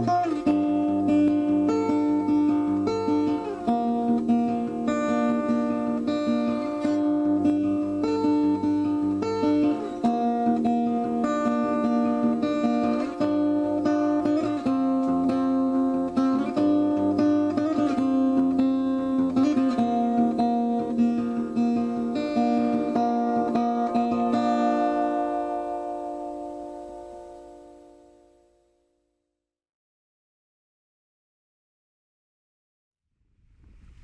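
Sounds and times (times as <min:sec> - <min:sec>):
acoustic guitar chords: 0:00.0 - 0:28.8.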